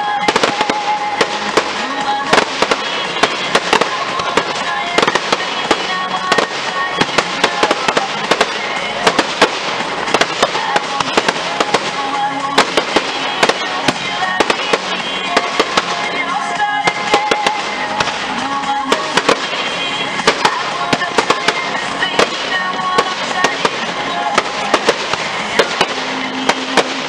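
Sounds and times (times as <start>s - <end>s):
firework bangs and crackling: 0.0s - 27.0s
music playing: 0.0s - 27.0s.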